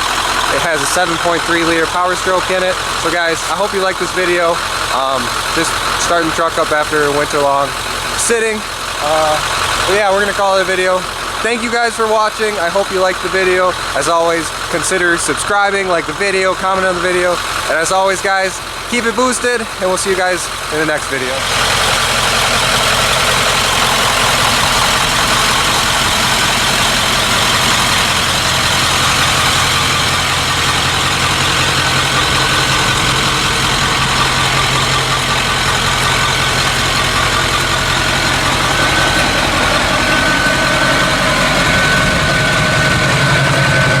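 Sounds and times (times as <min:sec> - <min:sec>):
diesel engine idling: 0:00.0 - 0:44.0.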